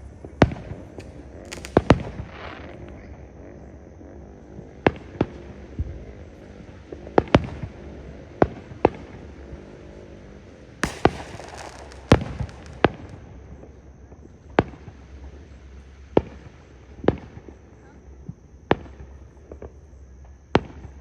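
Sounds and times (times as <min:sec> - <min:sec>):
fireworks bangs: 0:00.0 - 0:17.6
crackling hiss: 0:00.0 - 0:21.0.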